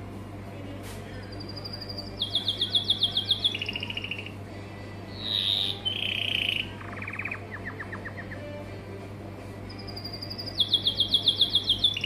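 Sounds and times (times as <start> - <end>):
canary singing: 1.1 - 12.0.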